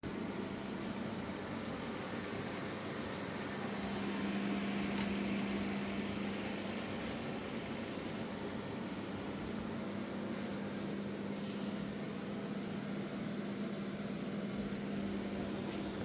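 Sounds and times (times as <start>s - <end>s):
fan noise: 0.0s - 16.0s
steady mechanical hum: 0.0s - 16.0s.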